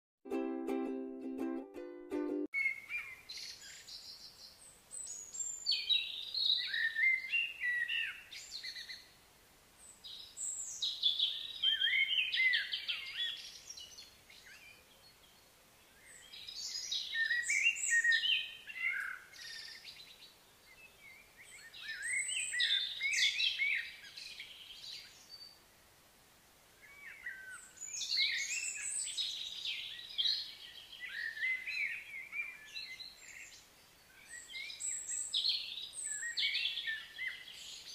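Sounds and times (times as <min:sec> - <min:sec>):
songbird singing: 0:00.4 - 0:37.9.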